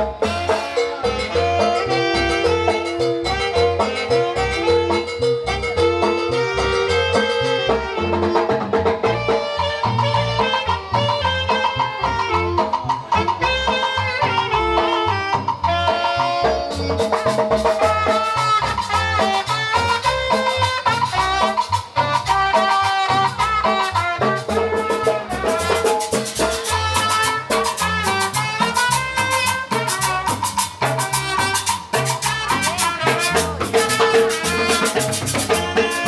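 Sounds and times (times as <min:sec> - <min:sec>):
latin dance band music: 0:00.0 - 0:36.0
percussion: 0:00.0 - 0:36.0.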